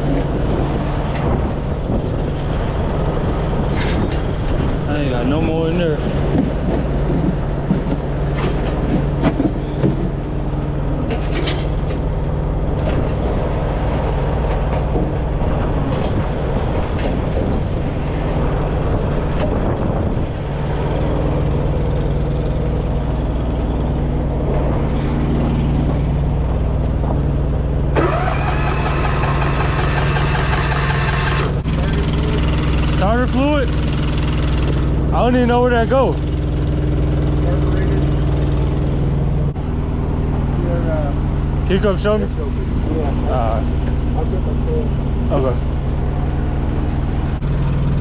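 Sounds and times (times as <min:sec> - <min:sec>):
truck diesel engine idling: 0:04.8 - 0:15.9, 0:20.3 - 0:48.0.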